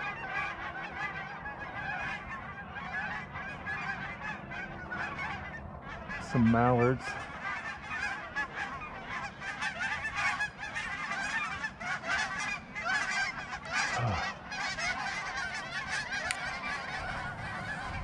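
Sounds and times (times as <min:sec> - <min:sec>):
flock of geese honking: 0:00.0 - 0:18.0.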